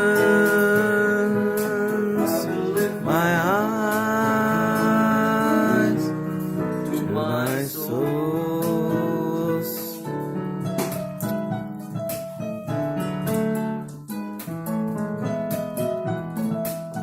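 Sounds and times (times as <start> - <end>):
electric keyboard chords and melody: 0.0 - 17.0.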